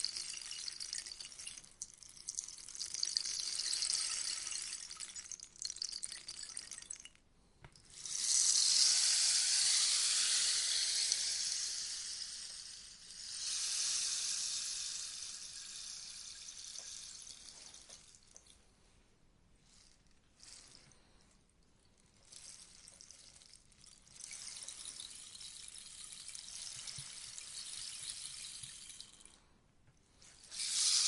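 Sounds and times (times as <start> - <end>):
rainstick beads pouring: 0.0 - 7.2, 7.9 - 18.6, 19.6 - 21.3, 22.0 - 29.4, 30.2 - 31.0.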